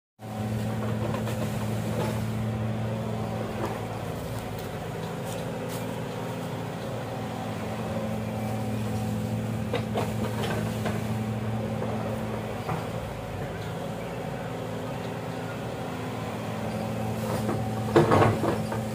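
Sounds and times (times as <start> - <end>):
excavator diesel engine running: 0.2 - 18.9.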